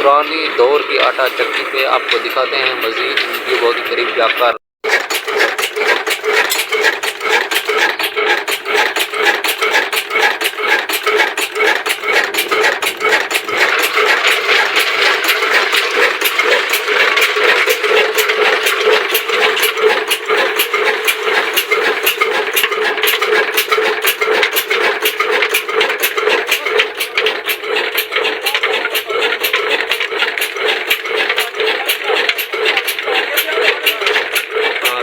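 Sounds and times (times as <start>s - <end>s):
diesel engine running flour mill: 0.0s - 35.0s
regular sharp engine knock: 0.0s - 35.0s.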